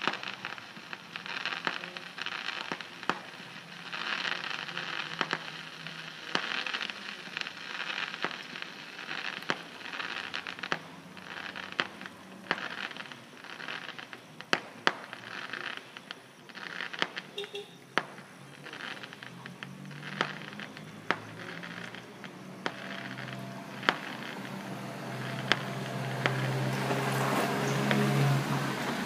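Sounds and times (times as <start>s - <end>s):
distant fireworks crackling: 0.0s - 29.0s
fireworks pops and bangs: 0.0s - 29.0s.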